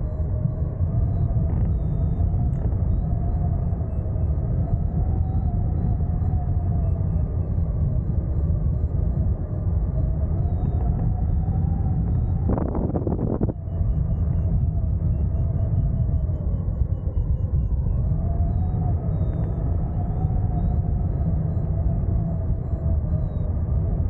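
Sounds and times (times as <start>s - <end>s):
wavering wind whistle: 0.0s - 24.0s
wind rumble: 0.0s - 24.0s.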